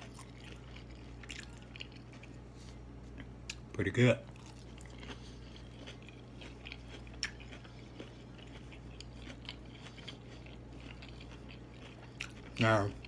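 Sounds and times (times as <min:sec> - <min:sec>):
person chewing food: 0:00.0 - 0:03.7, 0:04.3 - 0:13.0.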